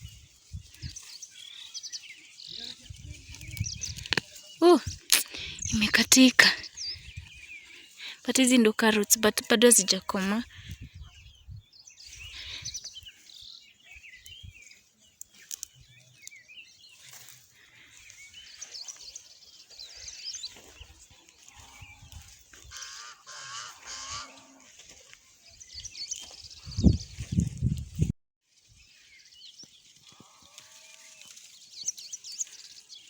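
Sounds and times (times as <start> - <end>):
birds chirping and singing: 0.0 - 27.8, 28.7 - 33.0.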